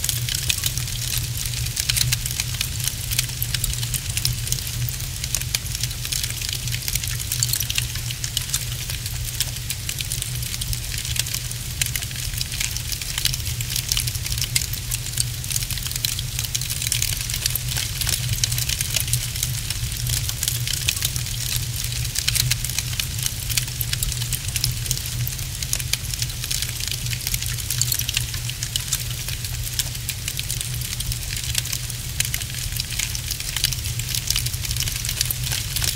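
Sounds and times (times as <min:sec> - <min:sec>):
low steady rumble: 0:00.0 - 0:35.9
wood fire crackling: 0:00.0 - 0:35.9.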